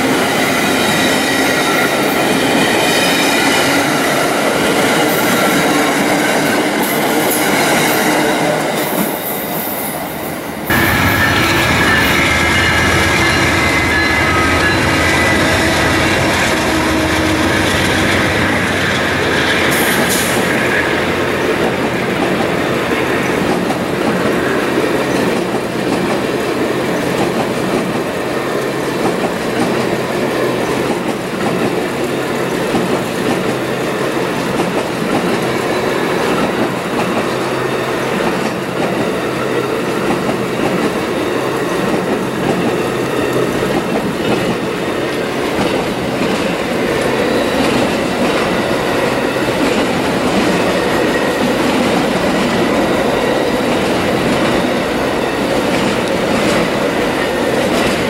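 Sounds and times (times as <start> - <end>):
train cars rolling past: 0.0 - 58.0.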